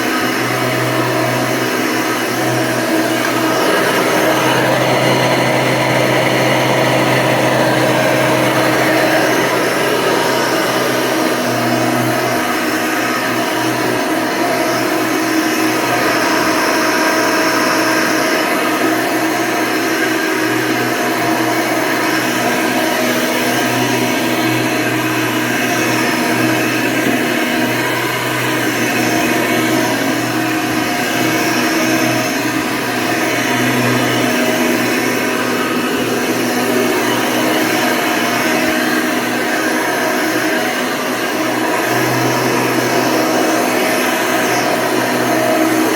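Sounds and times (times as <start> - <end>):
upright vacuum running: 0.2 - 45.9.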